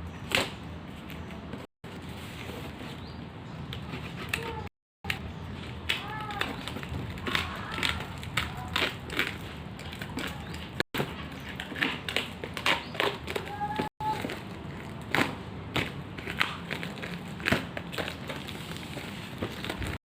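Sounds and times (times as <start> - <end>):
crinkling plastic and cardboard: 3.8 - 20.0.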